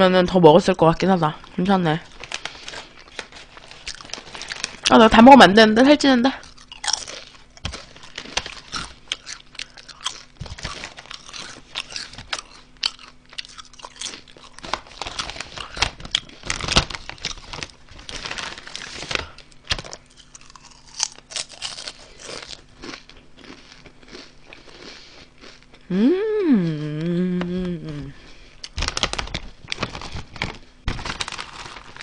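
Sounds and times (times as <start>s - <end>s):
foil snack bag crinkling: 2.0s - 24.9s, 28.6s - 32.0s
potato chips crunched and chewed: 2.1s - 5.1s, 6.4s - 25.8s, 28.6s - 32.0s.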